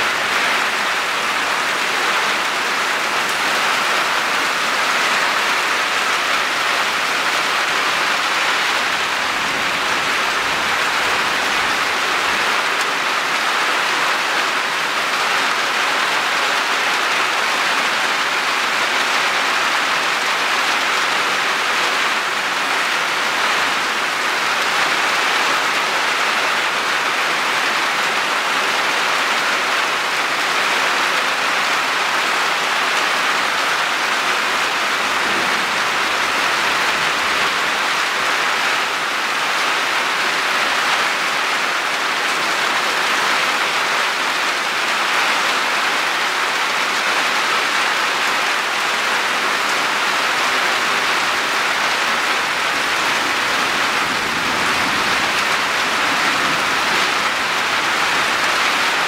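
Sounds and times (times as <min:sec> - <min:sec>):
heavy rain hiss: 0:00.0 - 0:29.7, 0:30.3 - 0:59.0.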